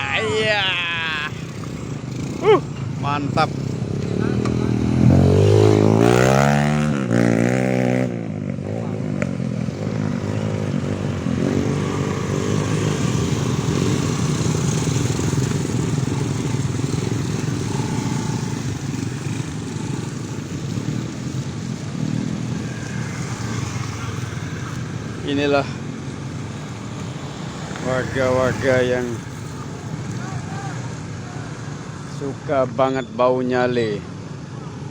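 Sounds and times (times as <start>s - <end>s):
steady engine rumble: 0.0s - 32.3s
engine revving: 0.5s - 31.2s.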